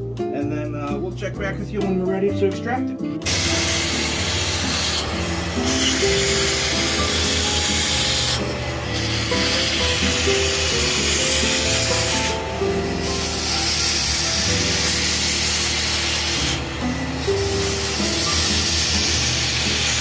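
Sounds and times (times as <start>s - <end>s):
background music: 0.0s - 20.0s
spray wand hissing: 3.2s - 20.0s.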